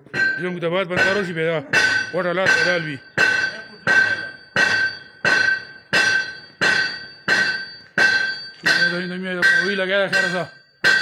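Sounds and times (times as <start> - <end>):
ringing metallic strikes: 0.0 - 11.0.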